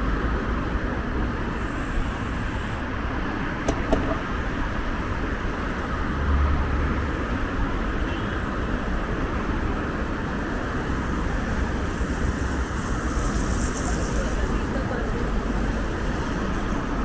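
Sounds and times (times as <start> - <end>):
cars passing with low rumble: 0.0 - 17.0.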